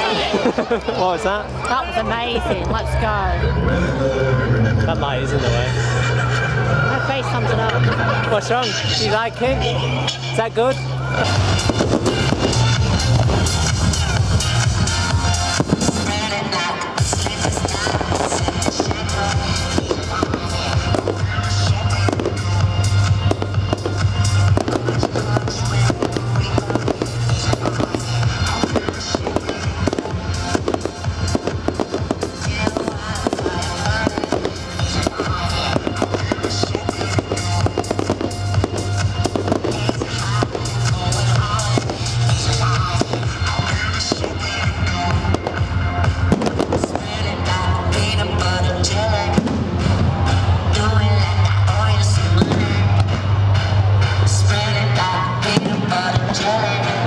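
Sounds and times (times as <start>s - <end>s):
loud display music: 0.0s - 57.0s
fireworks bangs and crackles: 10.0s - 57.0s.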